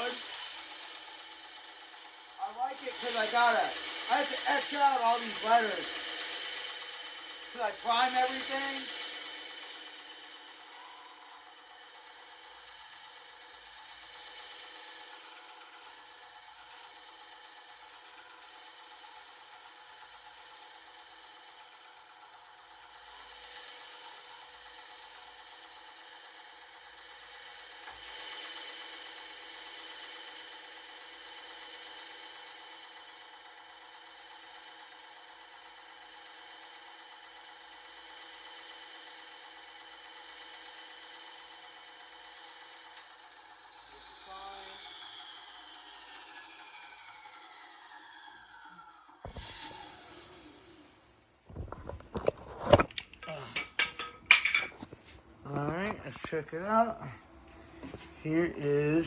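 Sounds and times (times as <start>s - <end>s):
power tool whining: 0.0s - 21.5s, 22.9s - 33.5s, 35.6s - 51.2s.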